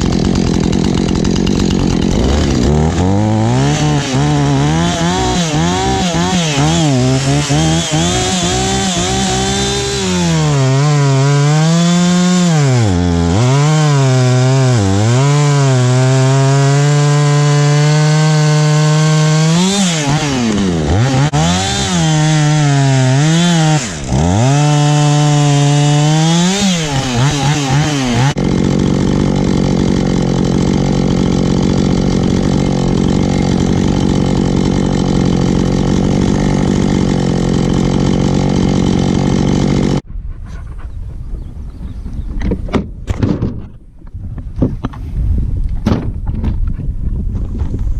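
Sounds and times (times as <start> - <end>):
chainsaw cutting wood: 0.0 - 40.1.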